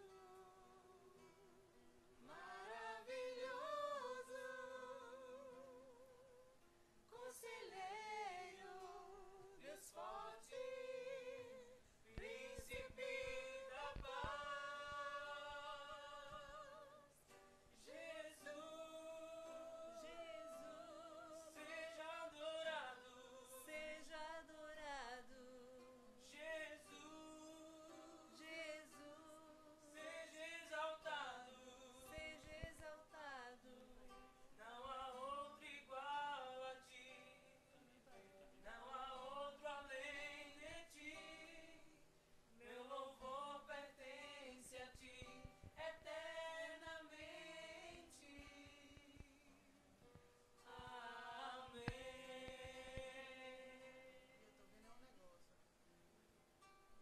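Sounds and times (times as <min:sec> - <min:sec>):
people singing together: 0:02.2 - 0:06.4, 0:07.1 - 0:17.2, 0:17.8 - 0:42.0, 0:42.6 - 0:49.7, 0:50.6 - 0:54.5.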